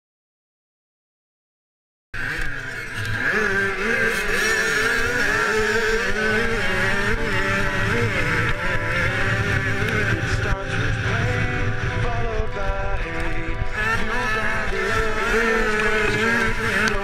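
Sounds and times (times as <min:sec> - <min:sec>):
motocross bike engine revving: 0:02.2 - 0:17.0.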